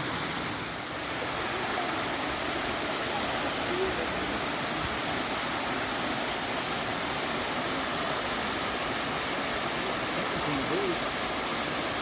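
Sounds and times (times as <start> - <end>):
water rushing in a stream: 0.0 - 12.0.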